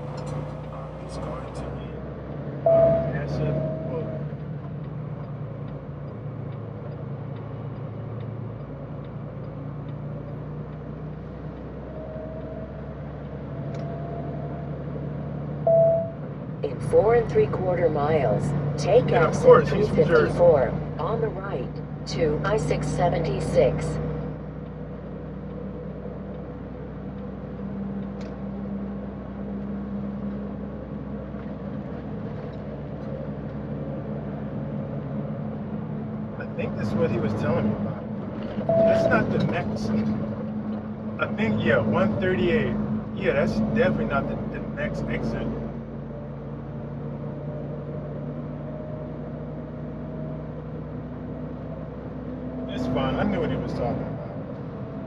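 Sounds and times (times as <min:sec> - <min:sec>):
diesel engine drone: 0:00.0 - 0:55.0
road noise: 0:00.0 - 0:55.0.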